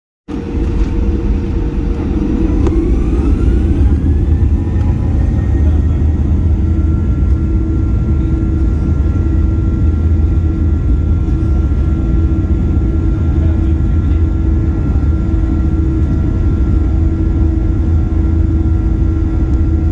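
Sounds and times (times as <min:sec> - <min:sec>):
deep jet engine rumble: 0:00.3 - 0:19.9
jet engine whine: 0:00.3 - 0:19.9.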